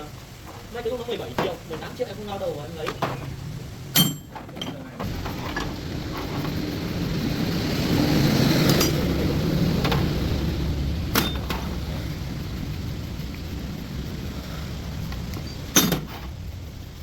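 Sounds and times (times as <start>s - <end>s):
vehicle running: 0.0s - 17.0s.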